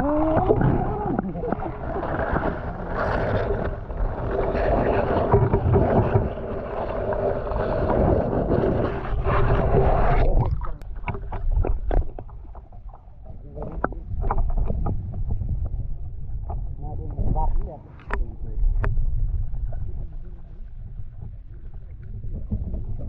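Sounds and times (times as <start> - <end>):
muffled underwater rumble: 0.0 - 23.0.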